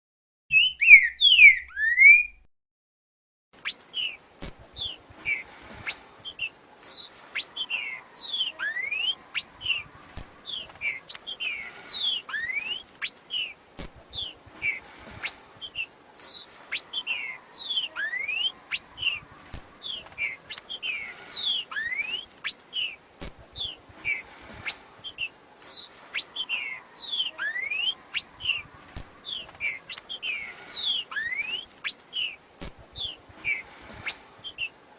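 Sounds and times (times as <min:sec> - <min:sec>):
bird whistling rapid notes: 0:00.5 - 0:02.5, 0:03.6 - 0:34.7.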